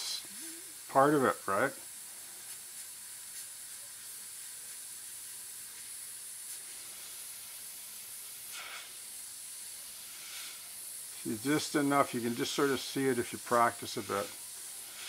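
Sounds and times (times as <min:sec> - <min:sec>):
airbrush hissing: 0:00.0 - 0:15.0.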